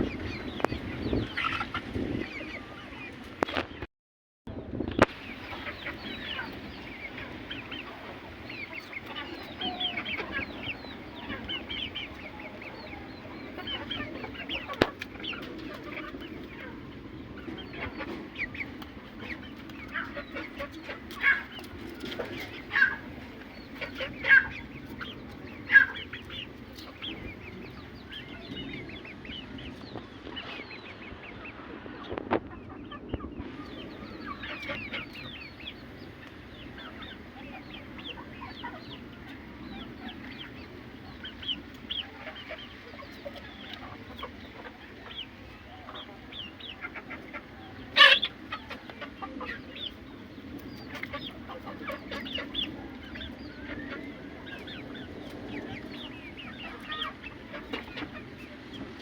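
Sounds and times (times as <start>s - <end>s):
chickens clucking: 0.0s - 3.9s, 5.0s - 59.0s.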